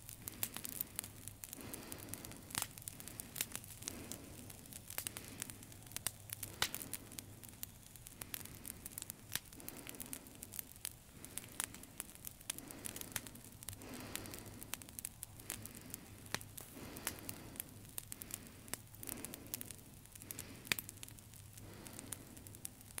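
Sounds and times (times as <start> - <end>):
crackling static: 0.0 - 23.0.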